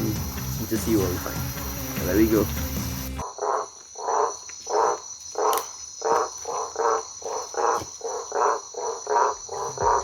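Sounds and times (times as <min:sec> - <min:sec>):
frogs croaking: 0:00.0 - 0:10.0
insects trilling: 0:00.0 - 0:10.0.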